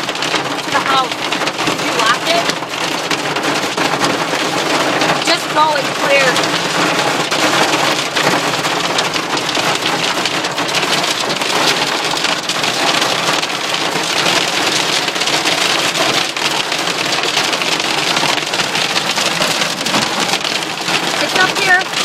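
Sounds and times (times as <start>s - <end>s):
hail and rain pelting a car: 0.0s - 22.0s.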